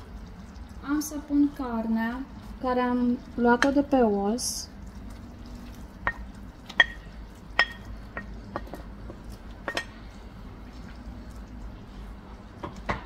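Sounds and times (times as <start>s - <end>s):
sauce bubbling: 0.0s - 13.0s.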